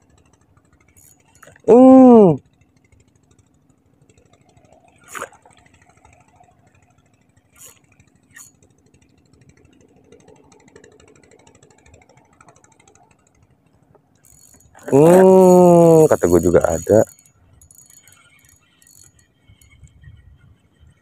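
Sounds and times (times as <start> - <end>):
faint low engine hum: 0.0 - 21.0.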